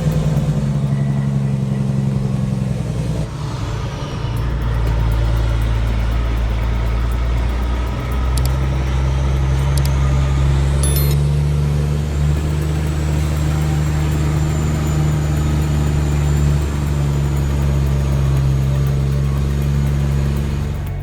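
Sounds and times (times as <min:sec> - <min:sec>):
truck diesel engine droning: 0:00.0 - 0:21.0.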